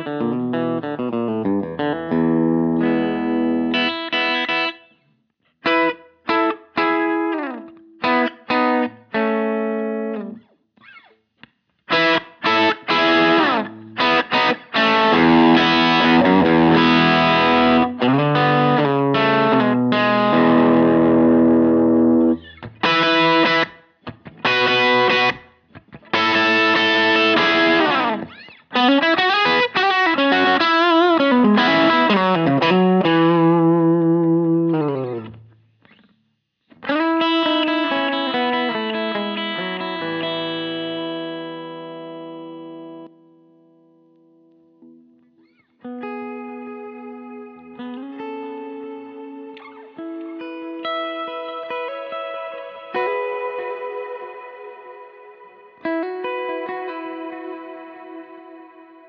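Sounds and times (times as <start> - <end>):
electric guitar chords and bends: 0.0 - 5.0, 5.6 - 11.2, 11.8 - 59.0.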